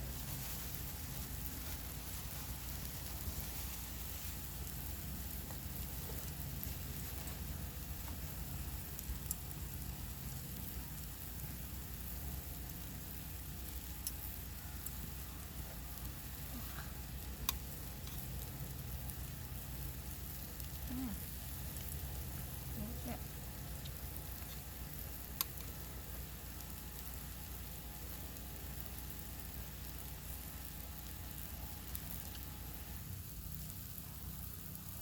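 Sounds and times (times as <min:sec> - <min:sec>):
meat sizzling on a griddle: 0:00.0 - 0:35.0
sharp ticks and pops: 0:04.3 - 0:35.0.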